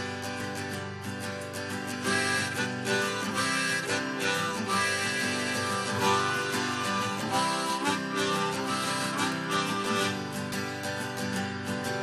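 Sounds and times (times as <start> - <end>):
acoustic guitar strumming: 0.0 - 12.0
harmonica melody: 1.8 - 12.0.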